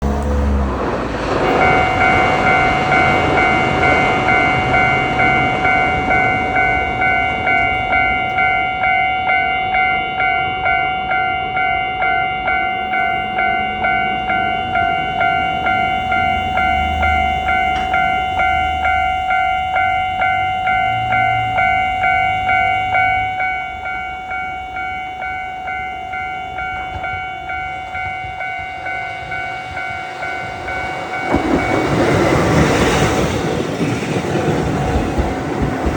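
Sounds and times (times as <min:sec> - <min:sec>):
level crossing warning bell ringing: 0:00.0 - 0:35.9.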